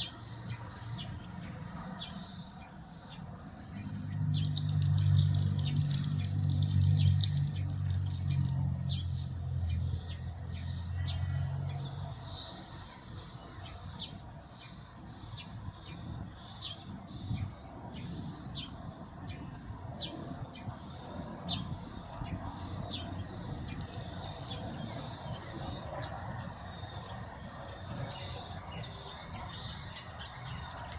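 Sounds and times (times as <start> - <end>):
high-pitched bird chorus: 0.0 - 30.9.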